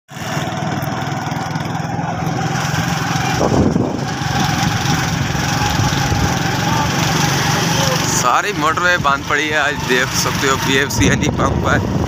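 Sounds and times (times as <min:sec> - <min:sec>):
small engine running: 0:00.1 - 0:12.0.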